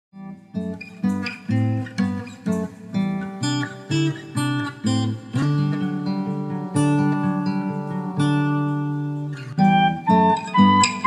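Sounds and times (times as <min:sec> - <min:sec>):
acoustic guitar strumming: 0:00.2 - 0:11.0.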